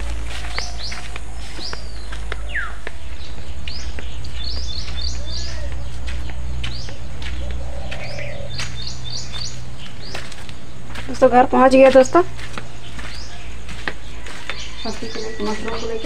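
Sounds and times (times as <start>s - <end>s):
steady low rumble: 0.0s - 14.4s
songbirds chirping: 0.0s - 16.0s.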